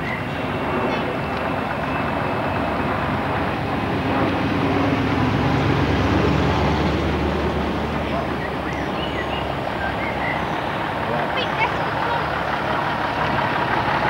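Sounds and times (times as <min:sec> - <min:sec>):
fire engine driving past: 0:00.0 - 0:14.0
old vehicle engine approaching: 0:00.0 - 0:14.0.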